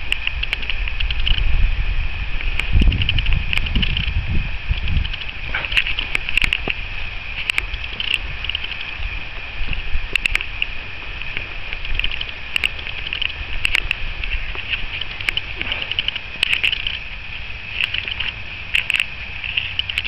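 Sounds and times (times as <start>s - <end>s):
wind rumbling on microphone: 0.0s - 20.0s
steady high chirping: 2.6s - 20.0s.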